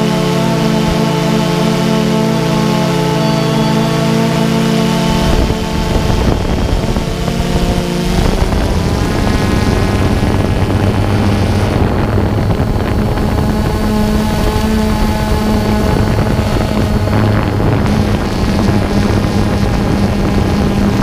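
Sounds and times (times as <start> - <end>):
drone propellers whirring: 0.0 - 21.0
steady held tone: 0.0 - 21.0
wind rushing over microphone: 0.0 - 21.0.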